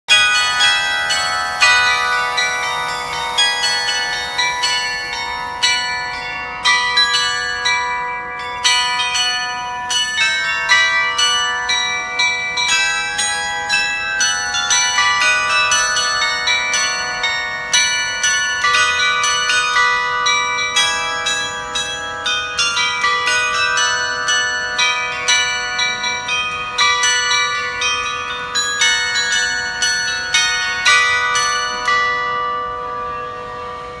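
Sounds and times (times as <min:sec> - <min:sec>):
small bells chiming: 0:00.1 - 0:34.0.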